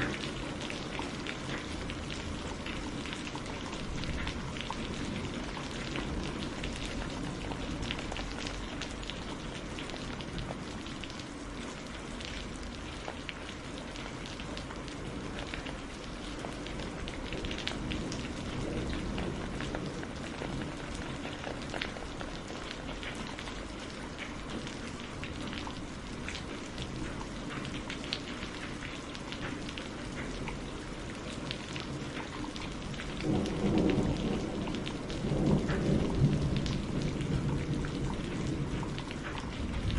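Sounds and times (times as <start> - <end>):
thunder rumbling: 0.0 - 27.8, 30.1 - 39.9
heavy rain falling: 0.0 - 39.9.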